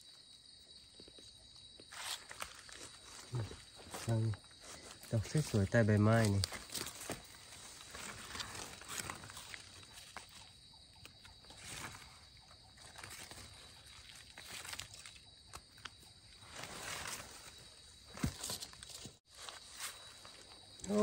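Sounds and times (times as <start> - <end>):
dry leaves rustling: 2.0 - 10.5, 11.5 - 21.0.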